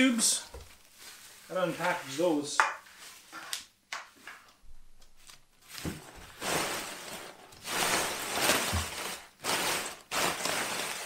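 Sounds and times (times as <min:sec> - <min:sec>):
bubble wrap rustling and crinkling: 0:00.1 - 0:03.8, 0:05.0 - 0:11.0.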